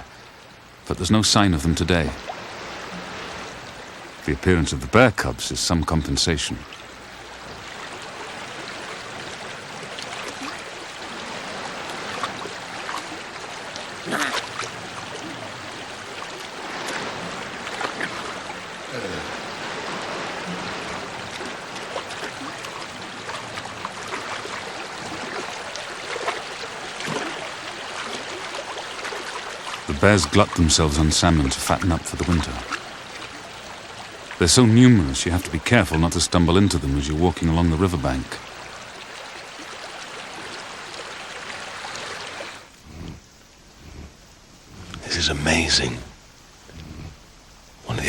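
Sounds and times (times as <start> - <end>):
river running over its bed: 0.0 - 48.0.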